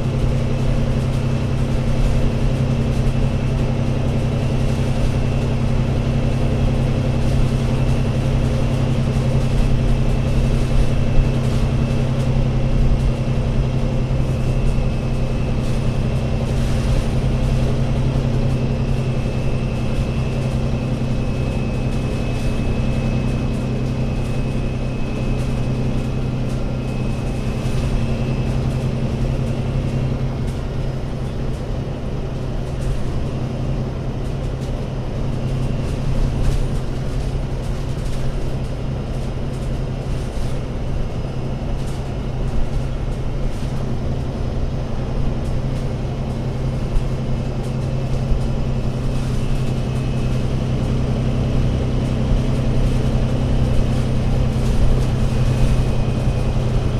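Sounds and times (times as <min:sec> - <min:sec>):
bus engine running: 0:00.0 - 0:56.9.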